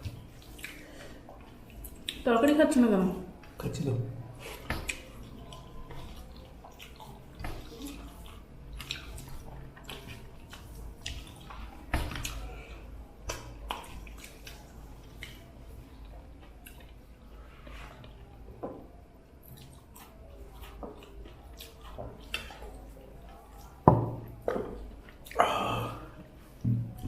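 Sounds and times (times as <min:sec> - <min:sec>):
wet eating squishes and smacks: 0:00.0 - 0:27.0.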